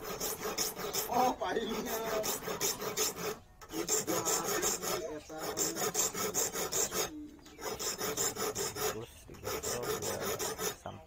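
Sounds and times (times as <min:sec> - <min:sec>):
hand file rasping: 0:00.0 - 0:11.0.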